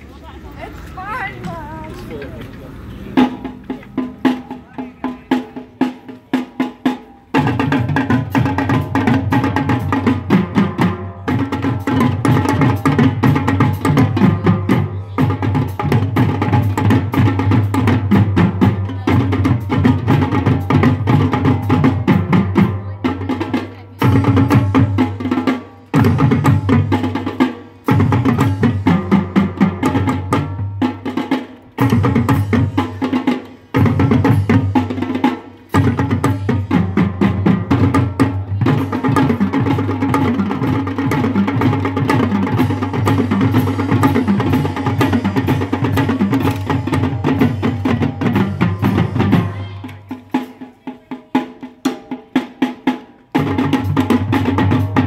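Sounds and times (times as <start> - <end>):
marching drumline cadence: 0.0 - 55.0.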